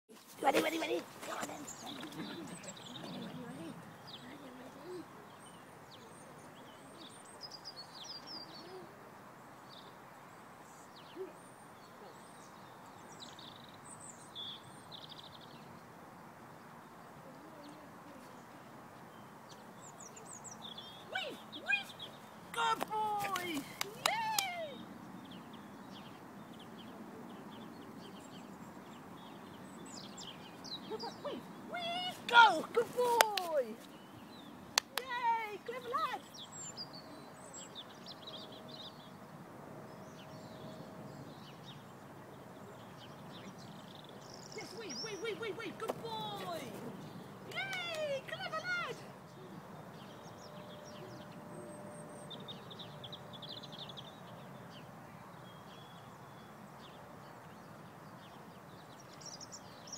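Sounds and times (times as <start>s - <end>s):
faint background noise: 0.1s - 59.9s
outdoor background hiss: 0.1s - 59.9s
small birds chirping: 0.1s - 59.9s.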